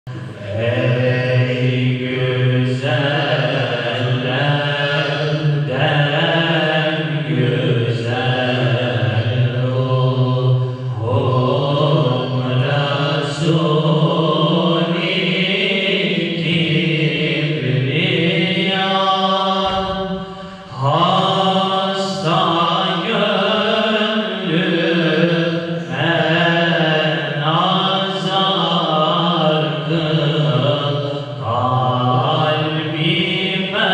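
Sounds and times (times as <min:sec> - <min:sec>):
men singing a hymn: 0:00.1 - 0:33.9.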